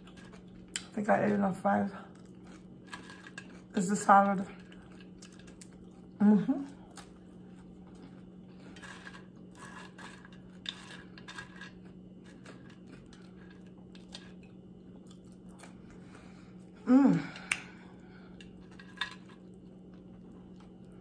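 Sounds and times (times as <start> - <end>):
steady low hum: 0.0 - 21.0
person chewing: 2.1 - 3.7, 4.6 - 21.0.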